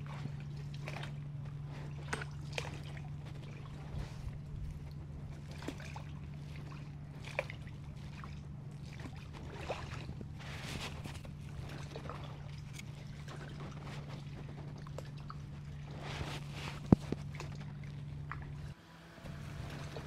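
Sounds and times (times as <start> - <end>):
paddle strokes in water: 0.0 - 20.0
steady low hum: 0.0 - 20.0.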